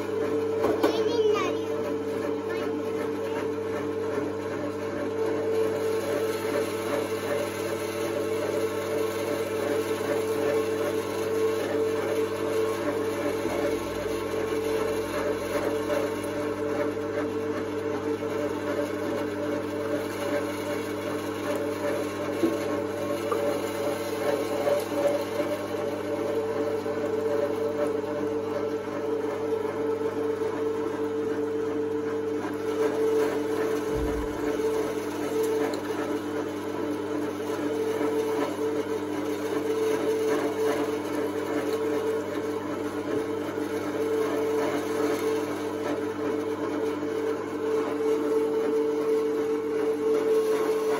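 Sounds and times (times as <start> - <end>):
electric meat mincer humming: 0.0 - 50.9.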